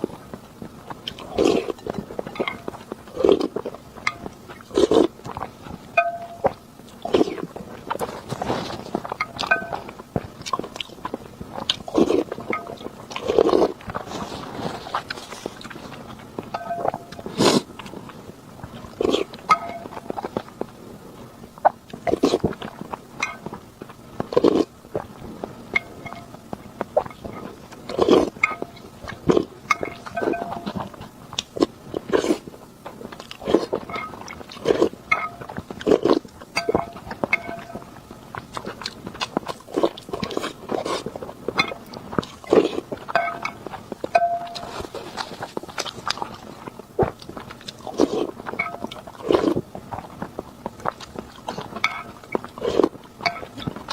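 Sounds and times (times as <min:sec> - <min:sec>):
person biting and chewing: 0:01.0 - 0:05.5, 0:06.1 - 0:16.0, 0:21.6 - 0:23.6, 0:24.2 - 0:25.1, 0:25.8 - 0:32.5, 0:33.1 - 0:53.9.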